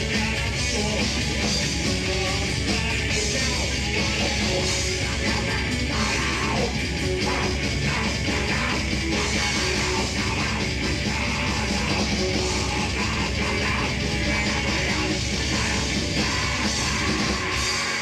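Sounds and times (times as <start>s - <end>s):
distorted electric guitars: 0.0s - 18.0s
fast dense drumming: 0.0s - 18.0s.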